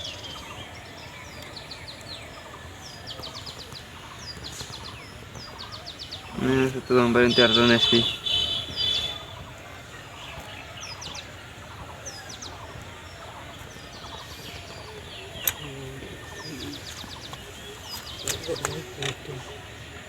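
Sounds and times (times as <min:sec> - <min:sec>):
faint background noise: 0:00.0 - 0:20.0
small birds chirping: 0:00.0 - 0:20.0.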